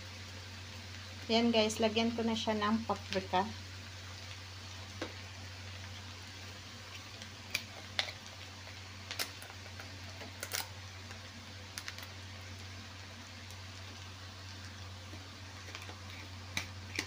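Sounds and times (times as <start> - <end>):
butter sizzling in a pan: 0.0 - 17.0
crackles and pops: 2.8 - 17.0.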